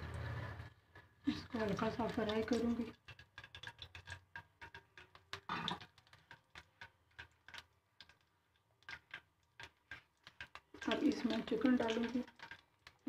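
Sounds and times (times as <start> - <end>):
seeds frying in hot oil: 0.0 - 13.0.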